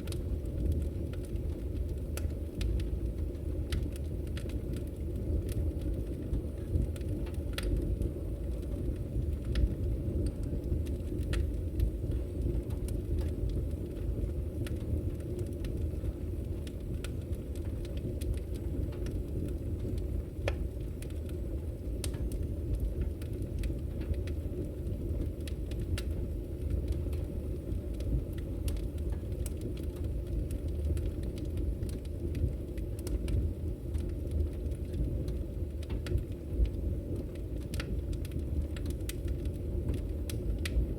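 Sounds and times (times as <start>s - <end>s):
firewood crackling and popping: 0.0s - 40.9s
low rumble of flames: 0.0s - 40.9s.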